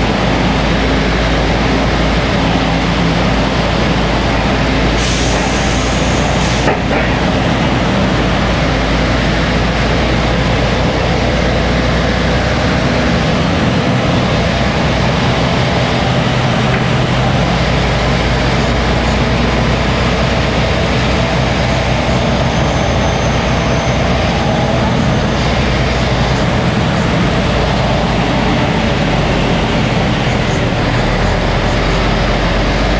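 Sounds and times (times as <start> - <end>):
bus engine drone: 0.0 - 32.9
road and wind noise: 0.0 - 32.9.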